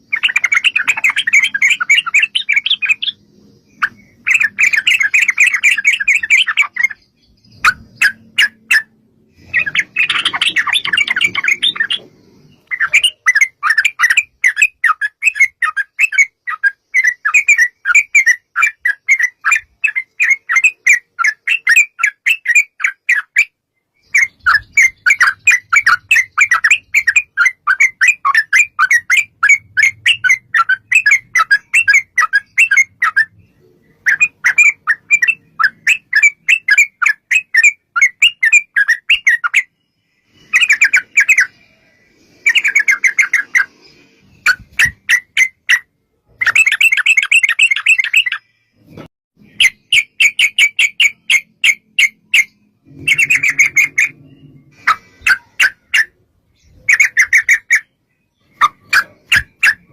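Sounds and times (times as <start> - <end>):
bulbul rapid chattering song: 0.0 - 39.7, 40.4 - 48.4, 49.4 - 59.9.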